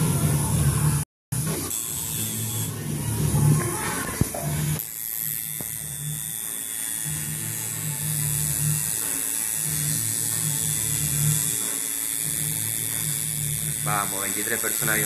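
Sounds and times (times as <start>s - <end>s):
electric tattoo machine buzzing: 0.0s - 15.0s.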